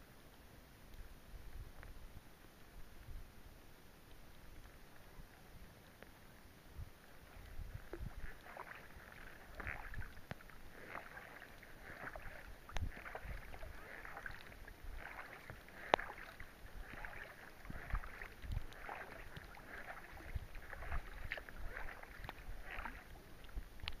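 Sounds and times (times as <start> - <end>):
faint rain on lake: 0.0 - 24.0
paddle swishes in water: 4.1 - 24.0.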